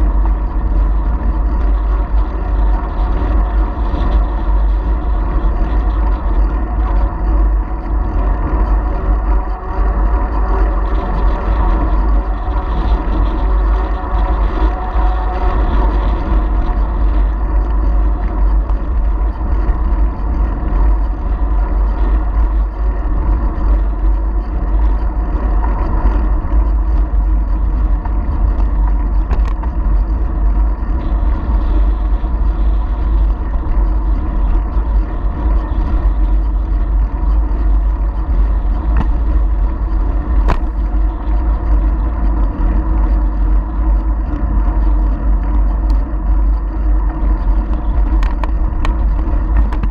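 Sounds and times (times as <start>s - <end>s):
bike rolling noise: 0.0s - 49.9s
wind rumbling on microphone: 0.0s - 49.9s.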